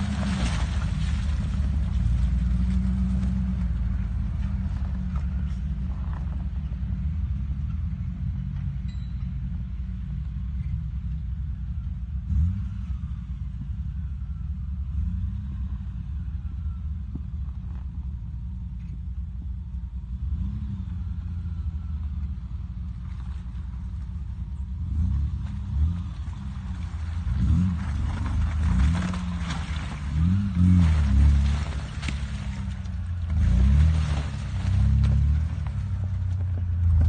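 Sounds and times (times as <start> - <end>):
vehicle engine rumbling and revving: 0.0 - 37.0.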